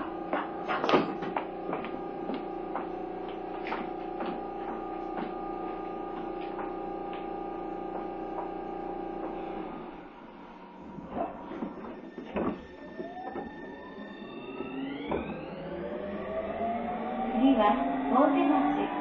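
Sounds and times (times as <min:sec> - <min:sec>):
train electrical hum: 0:00.0 - 0:19.0.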